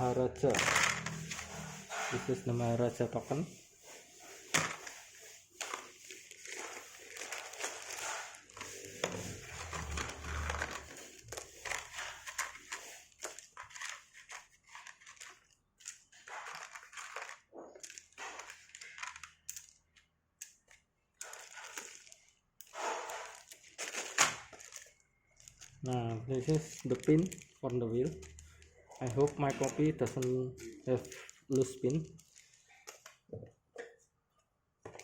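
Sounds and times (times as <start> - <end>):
plastic bags crinkling: 0.1 - 20.0, 20.6 - 33.3.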